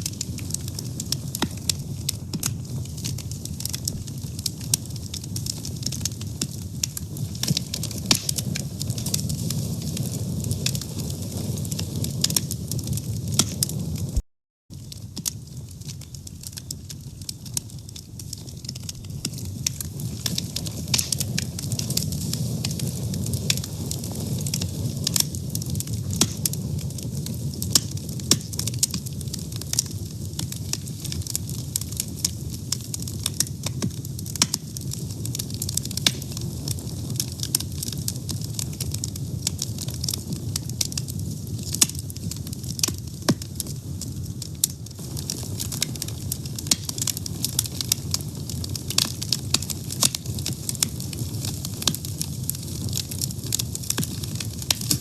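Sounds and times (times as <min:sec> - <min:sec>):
fire crackling and popping: 0:00.0 - 0:55.0
flames low rumble: 0:00.0 - 0:55.0.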